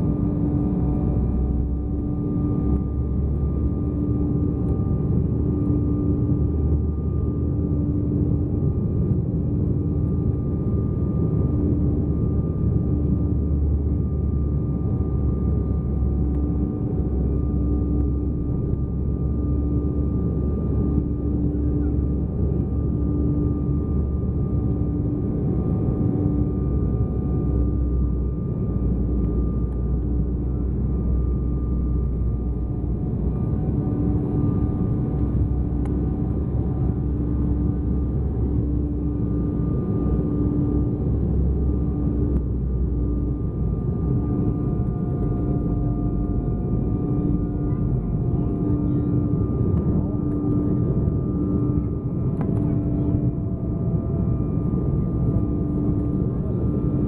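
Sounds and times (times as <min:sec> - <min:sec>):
low pulsing drone: 0:00.0 - 0:57.0.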